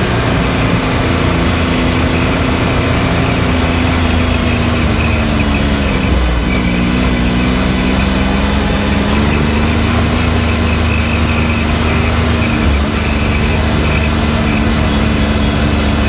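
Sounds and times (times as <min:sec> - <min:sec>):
engine running with whine: 0:00.0 - 0:16.0.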